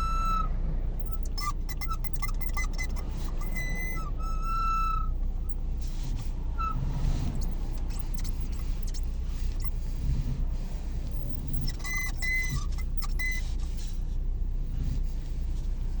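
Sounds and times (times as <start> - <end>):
car low rumble: 0.0 - 16.0
high squeaks: 0.0 - 16.0
steering wheel creaking: 0.0 - 16.0.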